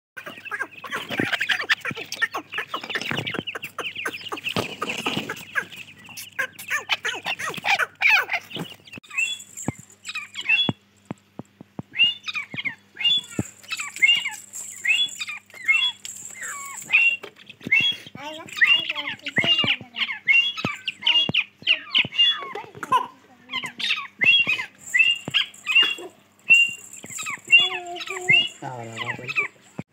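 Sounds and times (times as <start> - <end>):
chicks peeping: 0.2 - 29.9.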